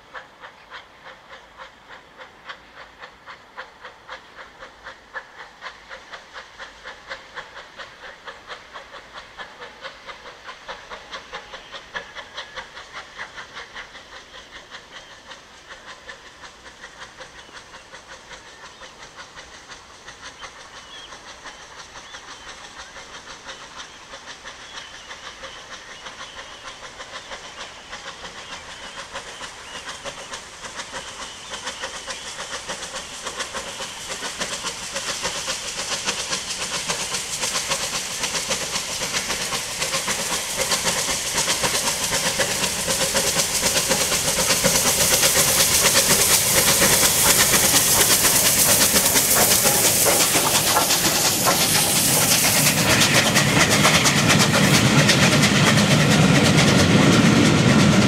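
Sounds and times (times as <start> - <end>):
steam hiss: 0.0 - 58.0
steam locomotive exhaust beats: 0.0 - 58.0.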